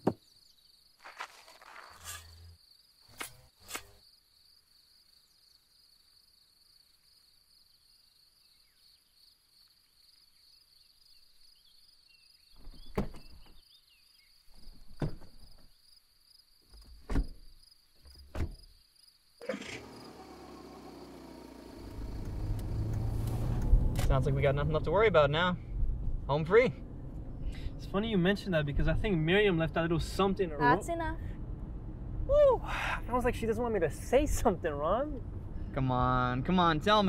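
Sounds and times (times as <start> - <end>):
crickets chirping: 0.2 - 35.7.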